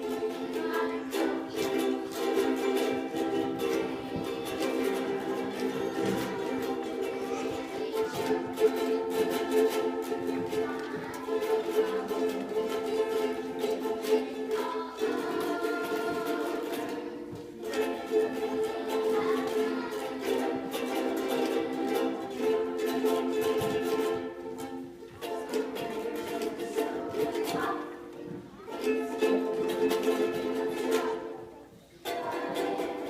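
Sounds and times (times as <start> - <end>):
plucked string instrument strummed: 0.0 - 33.0.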